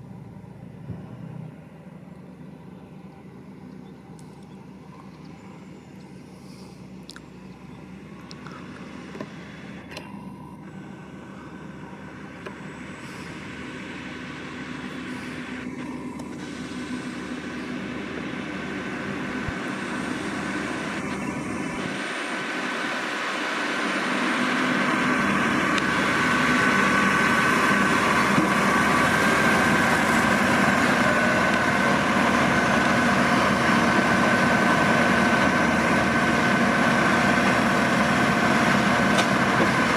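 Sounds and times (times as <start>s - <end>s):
baler high whine: 0.0s - 39.9s
tractor diesel engine: 0.0s - 39.9s.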